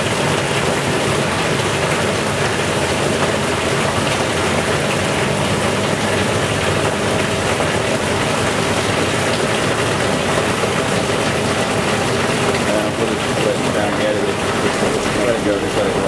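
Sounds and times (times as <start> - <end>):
liquid pouring into a tank: 0.0 - 16.0.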